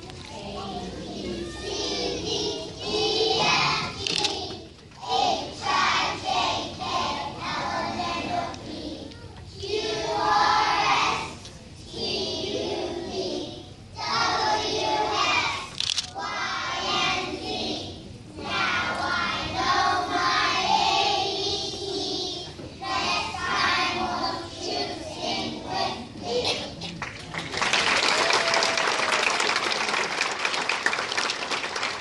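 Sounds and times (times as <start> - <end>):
children singing together: 0.0 - 26.8.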